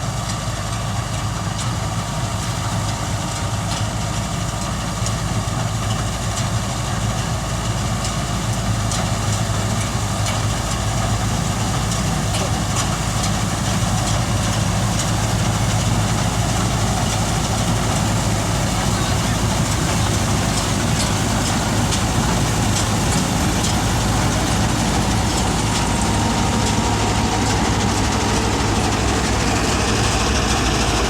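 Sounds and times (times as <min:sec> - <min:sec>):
combine harvester engine drone: 0:00.0 - 0:31.0.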